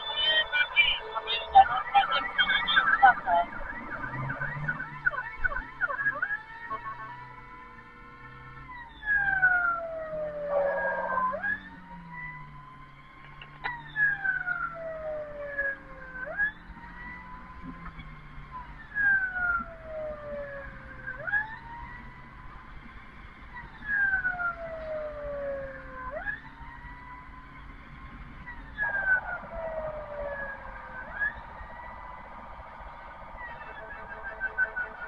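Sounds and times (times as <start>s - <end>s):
ambulance siren wailing: 0.0s - 35.0s.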